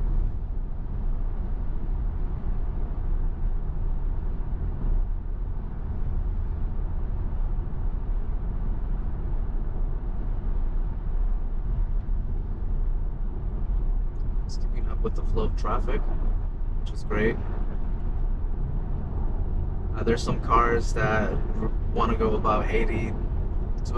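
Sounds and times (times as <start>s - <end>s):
road and tyre noise: 0.0s - 23.9s.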